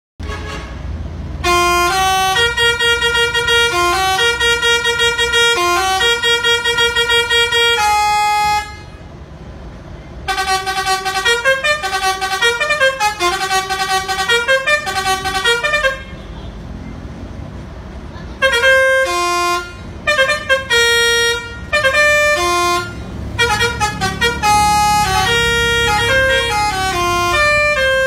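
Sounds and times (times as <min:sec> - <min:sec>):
truck musical horn: 0:00.2 - 0:09.2, 0:10.2 - 0:16.7, 0:18.4 - 0:28.0
truck engine running low: 0:00.4 - 0:28.0.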